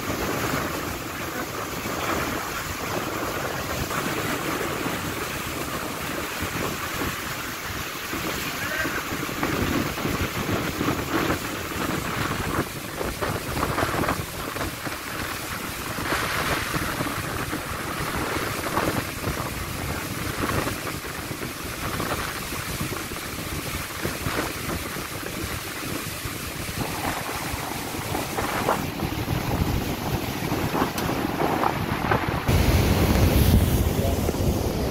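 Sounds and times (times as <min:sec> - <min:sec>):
rushing water: 0:00.0 - 0:34.9
wind buffeting microphone: 0:00.0 - 0:34.9.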